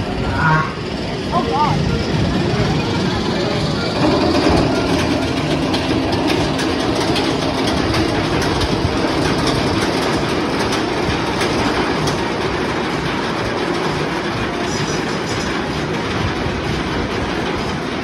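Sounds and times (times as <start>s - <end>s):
roller coaster rumbling on track: 0.0s - 18.0s.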